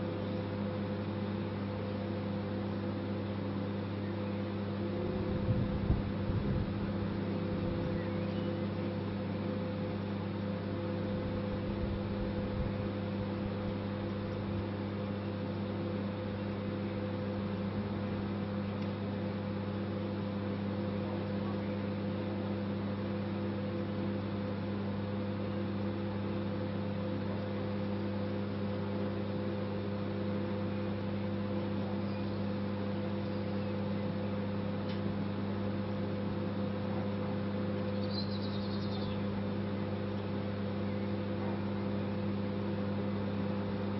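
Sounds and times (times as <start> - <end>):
microwave oven humming: 0.0 - 43.9.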